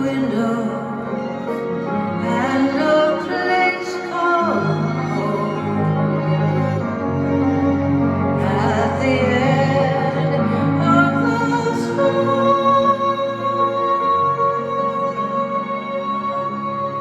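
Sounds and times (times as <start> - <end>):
live instrumental music: 0.0 - 17.0.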